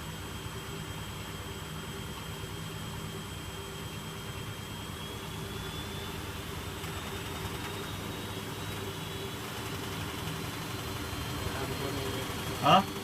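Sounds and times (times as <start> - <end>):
washing machine motor hum: 0.0 - 13.0
high whine rising in pitch: 2.5 - 13.0.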